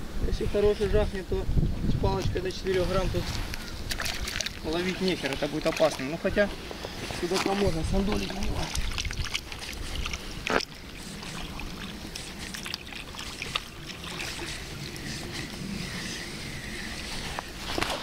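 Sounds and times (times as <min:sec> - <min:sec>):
water: 0:00.0 - 0:18.0
wind: 0:00.0 - 0:18.0.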